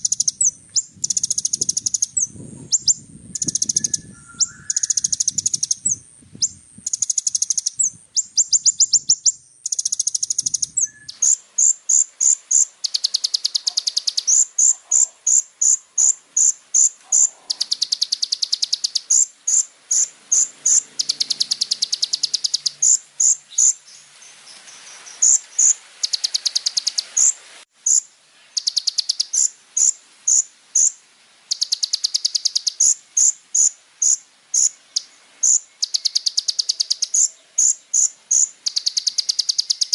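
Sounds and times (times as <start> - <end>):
bird buzzy trills: 0.0 - 24.1, 28.6 - 39.9
bird sharp chirps: 0.0 - 39.9.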